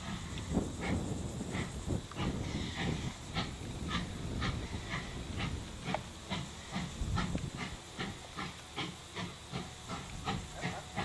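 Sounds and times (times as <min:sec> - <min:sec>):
steam hissing: 0:00.0 - 0:11.0
steam locomotive chuffing: 0:00.0 - 0:11.0.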